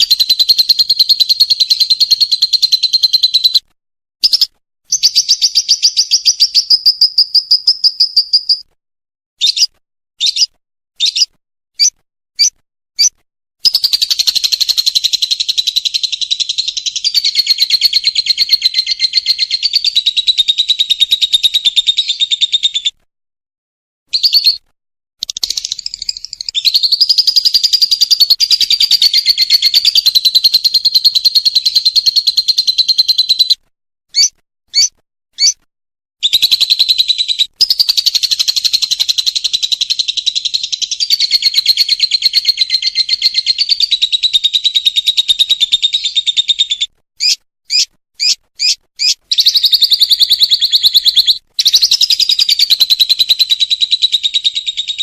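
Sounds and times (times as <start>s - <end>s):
lovebird chattering trill: 0.0s - 3.6s, 4.2s - 8.7s, 9.4s - 22.9s, 24.2s - 24.6s, 25.2s - 35.6s, 36.2s - 55.0s
bird chirps: 0.0s - 8.8s, 9.4s - 23.0s, 24.1s - 55.0s.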